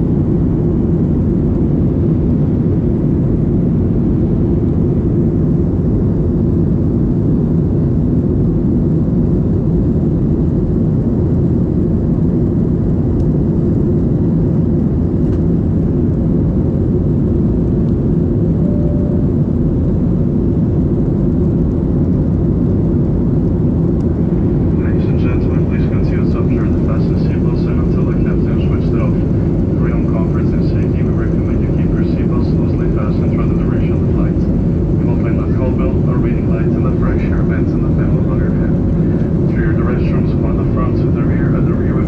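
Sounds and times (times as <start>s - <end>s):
airliner cabin engine noise: 0.0s - 42.0s.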